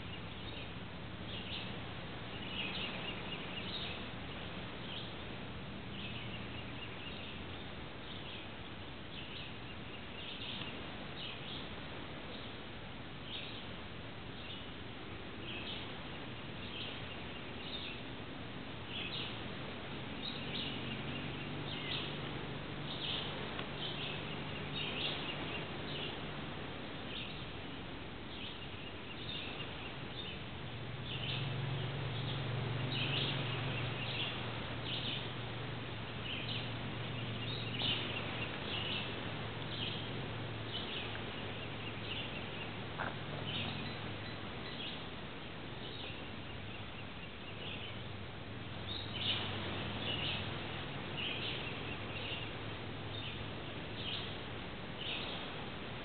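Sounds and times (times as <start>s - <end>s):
birds chirping: 0.0s - 56.0s
low steady hum: 0.0s - 56.0s.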